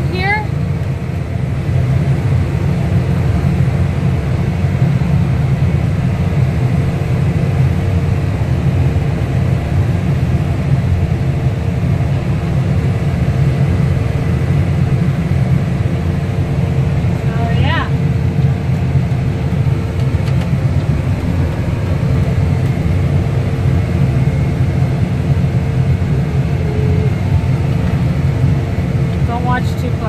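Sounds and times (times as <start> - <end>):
tractor engine rumbling: 0.0 - 30.0.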